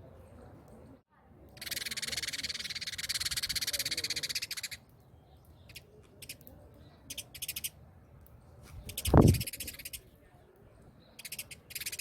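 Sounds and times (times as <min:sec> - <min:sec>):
small birds chattering: 0:01.5 - 0:07.8, 0:08.4 - 0:12.0.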